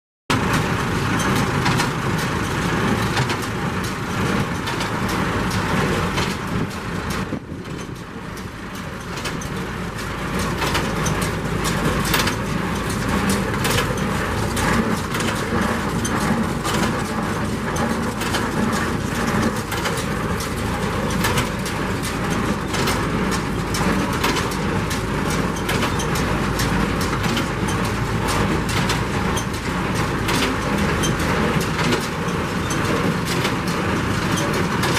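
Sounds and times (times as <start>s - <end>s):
baler clattering and clicking: 0.3s - 34.9s.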